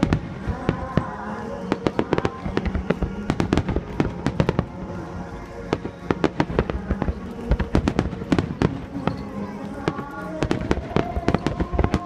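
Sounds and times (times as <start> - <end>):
fireworks bangs and crackles: 0.0 - 4.8, 5.6 - 12.0
music over loudspeakers: 0.0 - 12.0.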